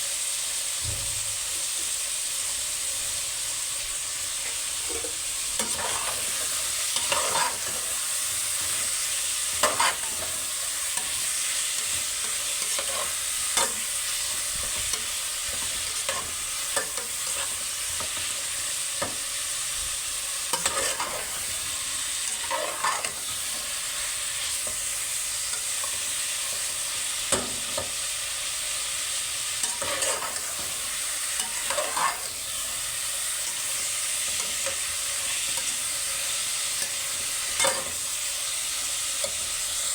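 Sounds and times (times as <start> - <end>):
food sizzling in a pan: 0.0 - 39.9
spatula scraping a pan: 4.2 - 28.1, 28.9 - 39.9.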